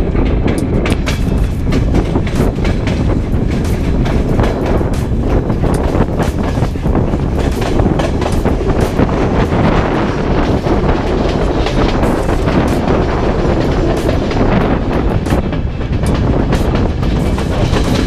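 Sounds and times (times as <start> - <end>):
train rumble: 0.0 - 18.0
train wheels clacking on rails: 0.0 - 18.0.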